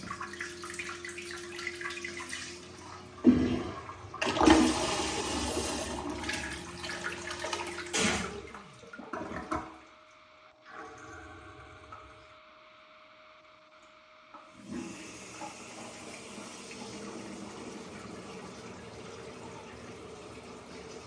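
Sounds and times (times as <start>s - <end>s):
toilet flushing: 0.0s - 10.0s, 10.6s - 12.4s, 14.4s - 21.0s.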